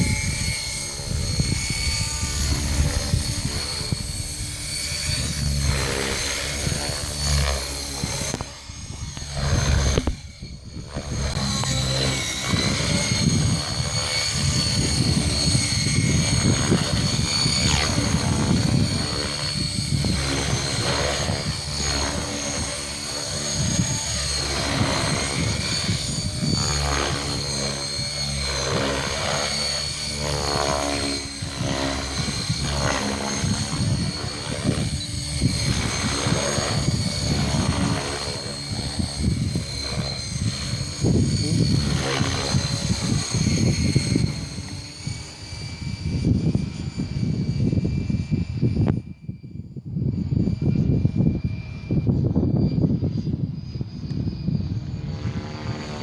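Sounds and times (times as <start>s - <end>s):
rotor blades chopping: 0.0s - 45.1s
electric motor whine: 0.0s - 56.0s.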